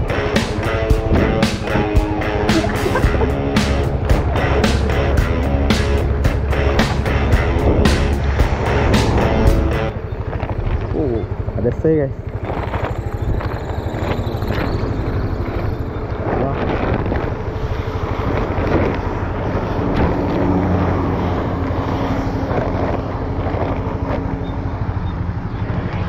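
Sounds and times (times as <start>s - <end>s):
heavy vehicle engine droning: 0.0s - 26.0s
low engine rumble: 0.0s - 26.0s.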